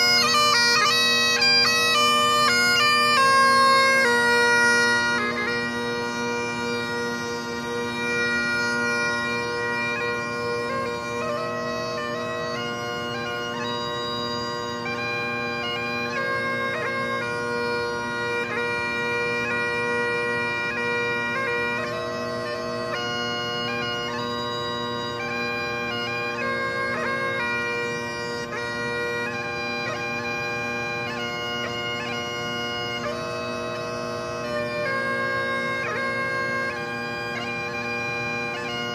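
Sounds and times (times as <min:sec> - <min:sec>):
bagpipes playing: 0:00.0 - 0:38.9.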